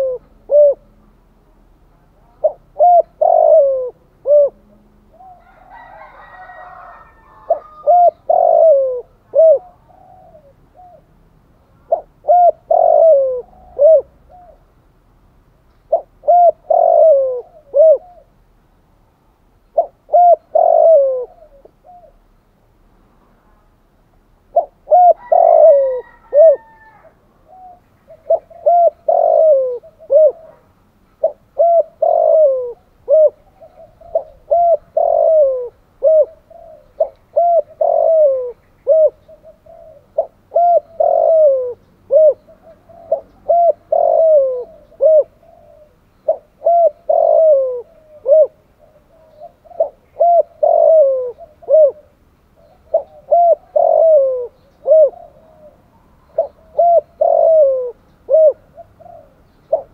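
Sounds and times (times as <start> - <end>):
dove cooing: 0.0 - 1.0, 2.2 - 11.2, 11.8 - 14.7, 15.9 - 18.4, 19.8 - 22.3, 24.5 - 59.9.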